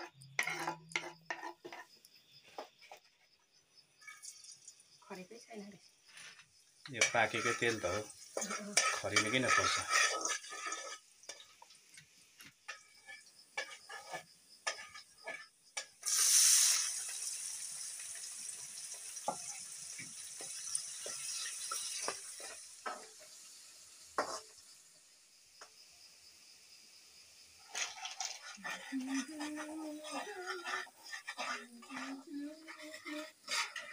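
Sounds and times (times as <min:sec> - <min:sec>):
spatula scraping in a wok: 0:00.0 - 0:04.9, 0:06.0 - 0:24.8, 0:27.4 - 0:33.9
onions sizzling in hot oil: 0:04.0 - 0:33.9.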